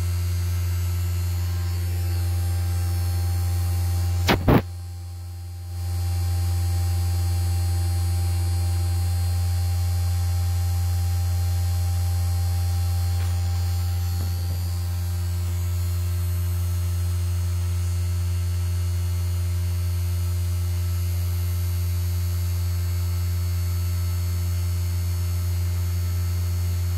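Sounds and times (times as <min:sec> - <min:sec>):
low electrical hum: 0:00.0 - 0:26.9.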